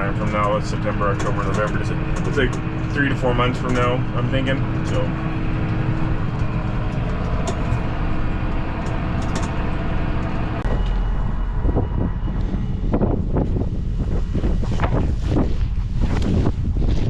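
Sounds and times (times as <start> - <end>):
deep rumble: 0.0 - 17.0
vehicle engine running: 0.0 - 17.0
wind gusting on microphone: 0.0 - 17.0.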